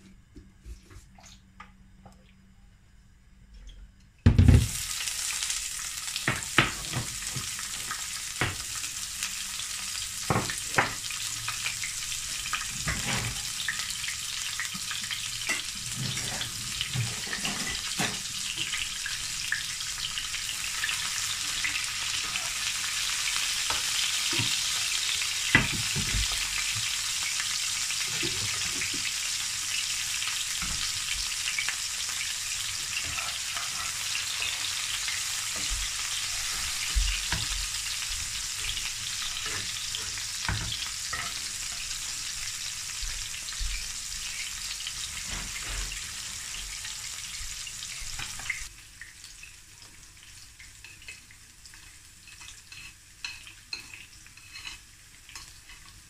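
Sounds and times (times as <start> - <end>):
peppers sizzling in hot oil: 4.3 - 56.0.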